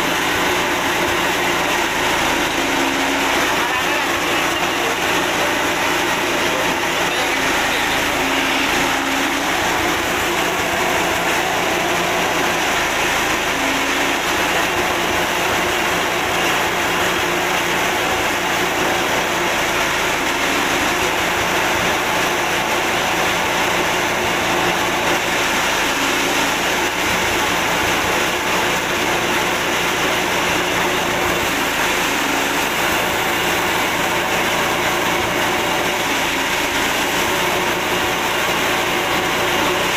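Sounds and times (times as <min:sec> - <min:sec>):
forage chopper engine droning: 0:00.0 - 0:39.9.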